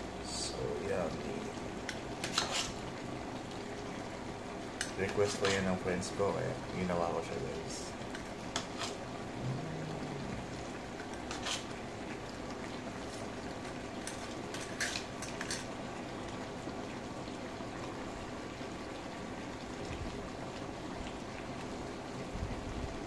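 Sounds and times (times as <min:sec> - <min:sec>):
sauce bubbling in a pot: 0:00.0 - 0:23.0.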